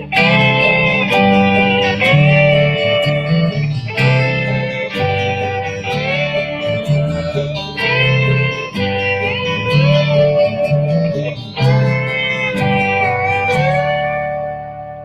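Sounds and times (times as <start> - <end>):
sliding guitar music: 0.0 - 15.0
steady bass line: 0.0 - 15.0.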